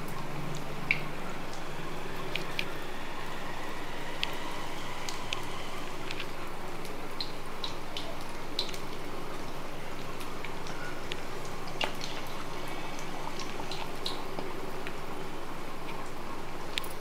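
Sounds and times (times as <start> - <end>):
oil popping and crackling: 0.0 - 17.0.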